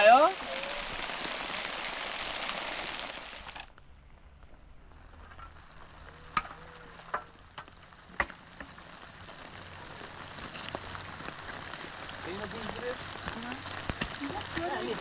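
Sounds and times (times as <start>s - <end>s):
light rain pattering: 0.0s - 15.0s.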